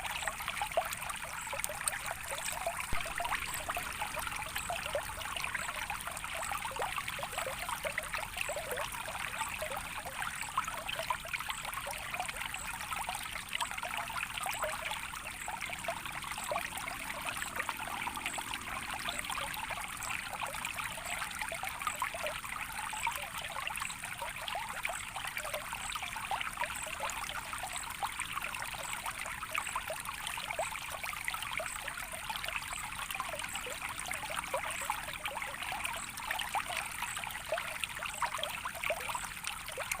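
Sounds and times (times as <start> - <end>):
water trickling: 0.0 - 40.0.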